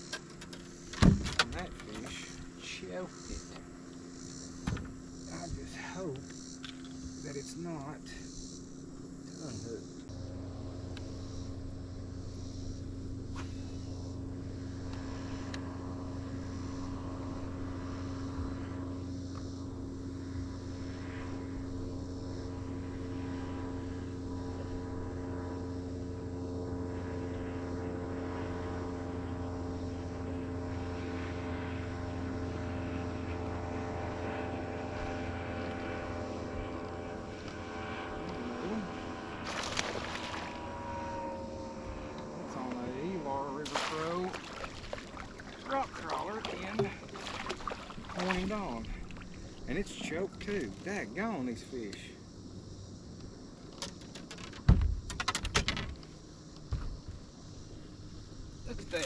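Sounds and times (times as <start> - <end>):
boat motor running: 0.0 - 54.5.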